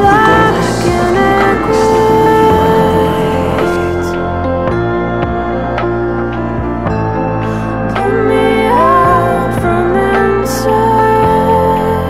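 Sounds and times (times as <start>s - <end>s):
gentle song with guitar: 0.0s - 12.0s.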